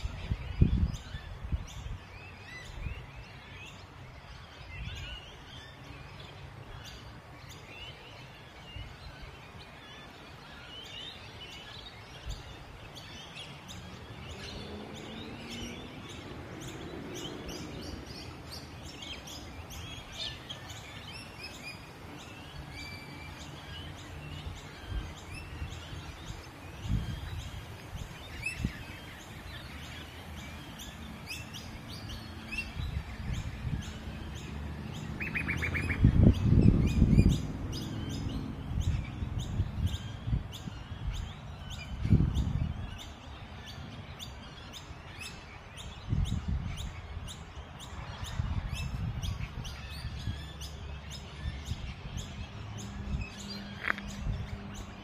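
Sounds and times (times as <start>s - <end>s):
low wind rumble on microphone: 0.0s - 9.8s, 11.1s - 55.0s
birds chirping and calling: 0.0s - 55.0s.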